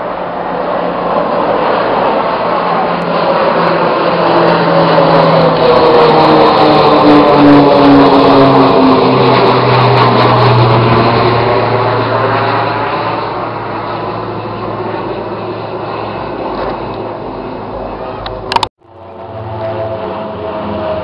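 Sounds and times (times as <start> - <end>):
low-flying aircraft passing: 0.0 - 21.0.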